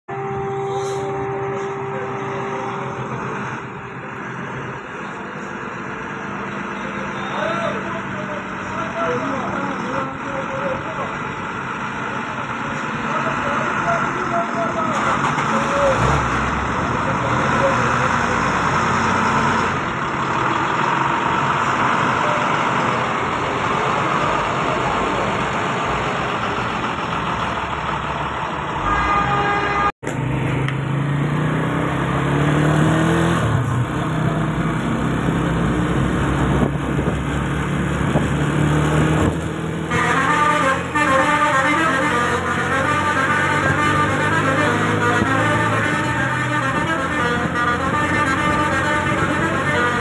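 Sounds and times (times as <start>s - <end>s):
bus engine running: 0.1s - 50.0s.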